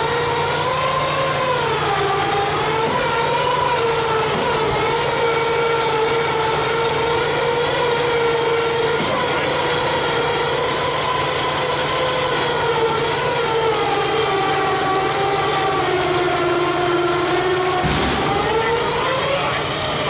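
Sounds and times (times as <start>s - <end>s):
mechanical whine: 0.0s - 20.0s.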